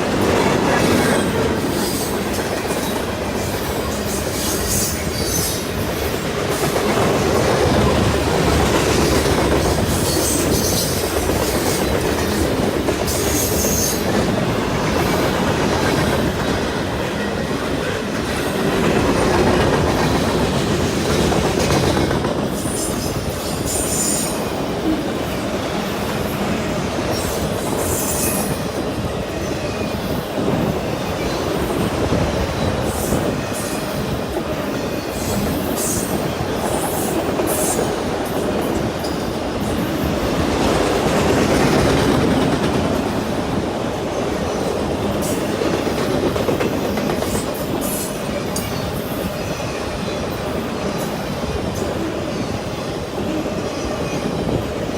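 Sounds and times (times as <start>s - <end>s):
train wheel and rail rumble: 0.0s - 54.9s.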